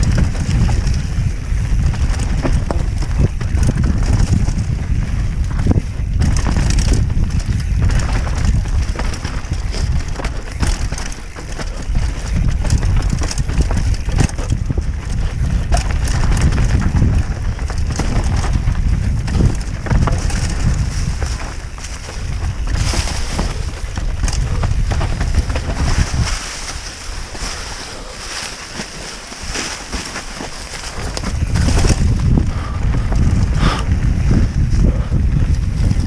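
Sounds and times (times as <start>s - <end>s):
bike tyres rattling over rocks: 0.0s - 36.0s
wind buffeting microphone: 0.0s - 36.0s.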